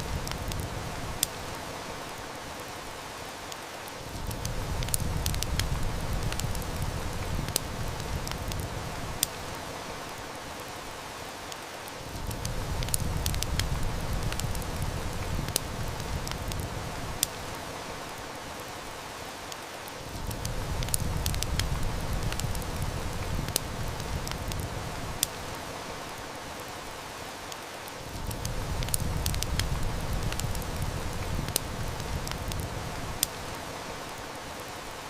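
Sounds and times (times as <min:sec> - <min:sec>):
heavy rain hissing: 0:00.0 - 0:35.0
wood fire crackling: 0:00.0 - 0:35.0.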